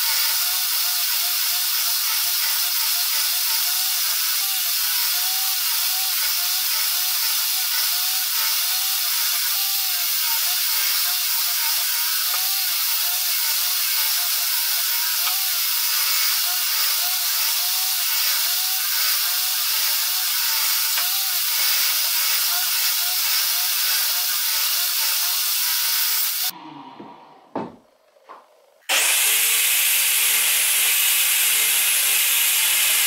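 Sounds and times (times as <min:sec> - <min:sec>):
table saw ripping wood: 0:01.0 - 0:26.5, 0:28.9 - 0:33.0.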